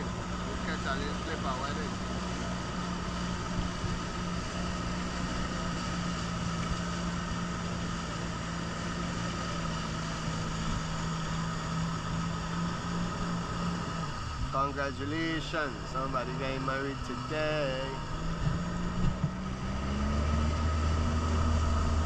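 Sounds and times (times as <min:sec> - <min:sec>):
boat engine droning: 0:00.0 - 0:22.0
steady rushing water: 0:00.0 - 0:22.0.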